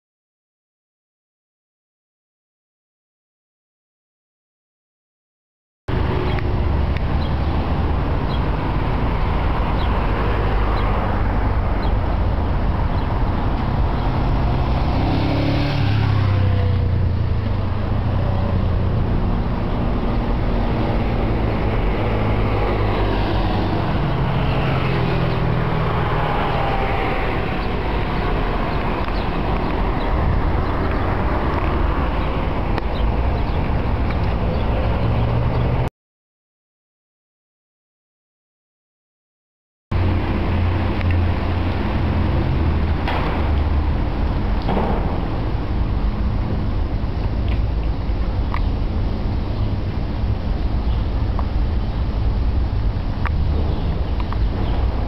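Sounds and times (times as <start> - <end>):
cars passing: 5.9 - 35.9, 39.9 - 55.0
low traffic rumble: 5.9 - 35.9, 39.9 - 55.0.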